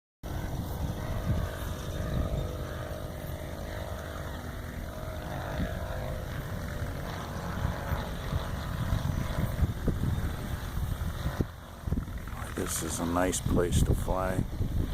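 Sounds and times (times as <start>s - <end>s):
model airplane engine running: 0.2s - 14.9s.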